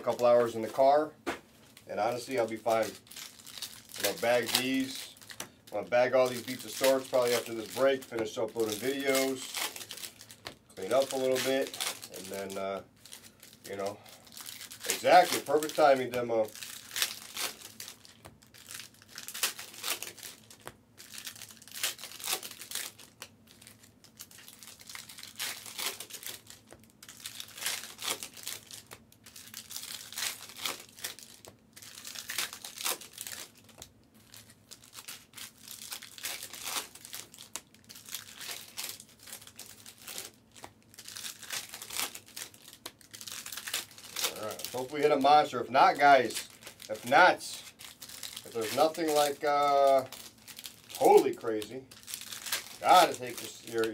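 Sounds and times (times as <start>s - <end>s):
foil wrappers crinkling and tearing: 0.0s - 1.0s, 1.6s - 53.9s.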